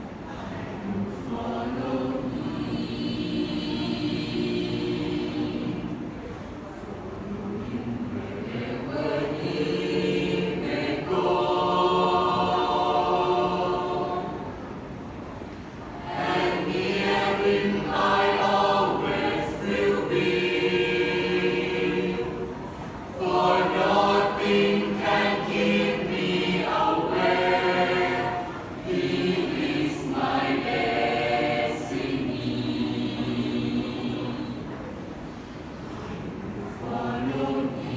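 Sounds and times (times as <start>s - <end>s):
voices singing in harmony: 0.0s - 6.4s, 7.0s - 35.2s, 35.8s - 37.9s.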